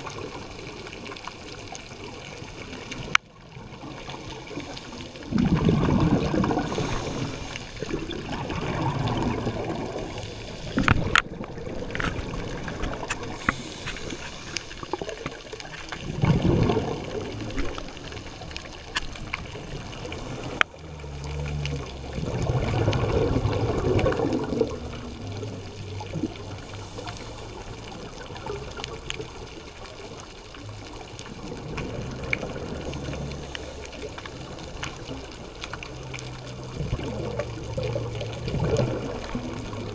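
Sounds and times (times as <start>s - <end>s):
underwater water swishing: 0.0s - 39.9s.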